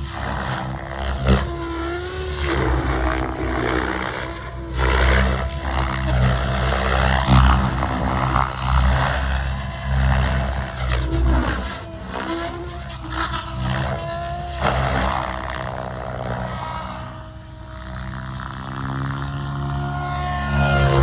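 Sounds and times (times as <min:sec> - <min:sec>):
helicopter rotor blades chopping: 0:00.0 - 0:21.0
motor whine: 0:00.0 - 0:21.0.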